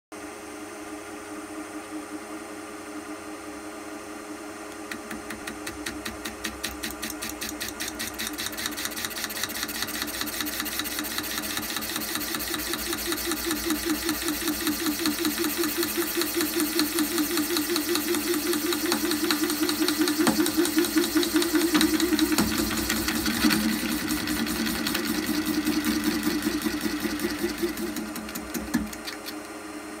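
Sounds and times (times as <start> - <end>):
milling cutter pulsing hum on metal: 0.2 - 30.0.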